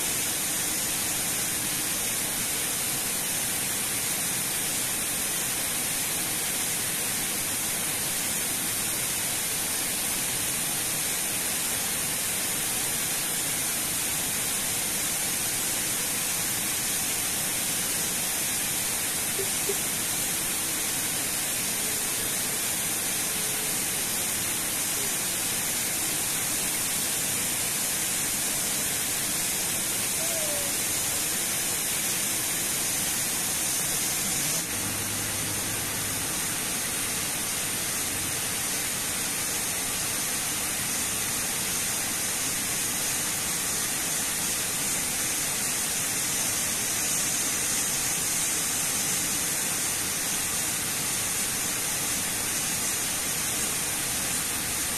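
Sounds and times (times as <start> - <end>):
water pouring down a weir: 0.0 - 54.9.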